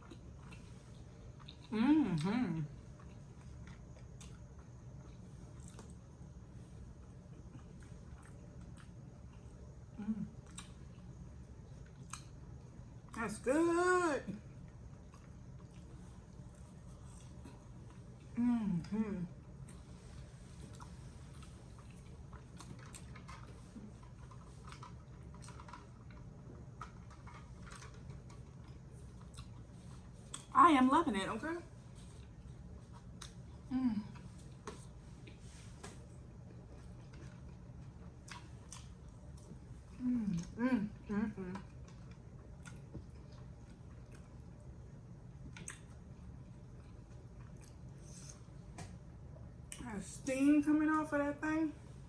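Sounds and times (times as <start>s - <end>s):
chewing and wet mouth sounds: 0.0s - 13.2s, 14.4s - 18.4s, 19.3s - 30.6s, 31.7s - 49.9s
steady low hum: 0.0s - 52.0s.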